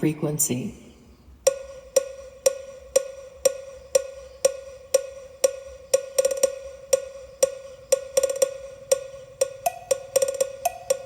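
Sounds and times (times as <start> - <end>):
pitched percussion knock: 1.5 - 11.0.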